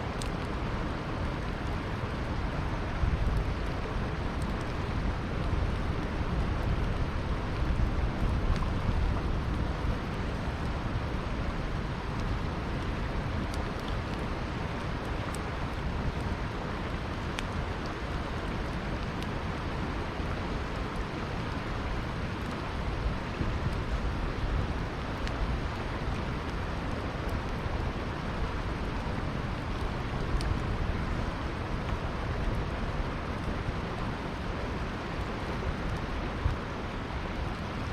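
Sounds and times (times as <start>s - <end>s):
campfire crackling: 0.0s - 37.9s
flowing river: 0.0s - 37.9s.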